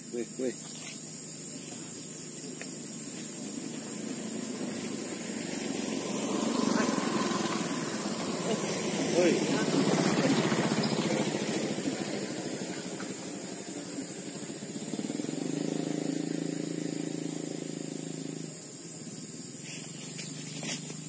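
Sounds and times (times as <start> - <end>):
distant motor engine running: 0.0 - 21.0
steady high hiss: 0.0 - 21.0.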